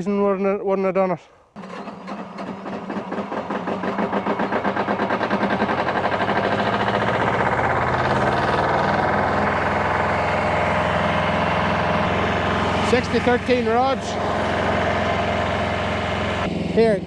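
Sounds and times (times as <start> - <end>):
welder generator engine running: 1.6 - 17.0.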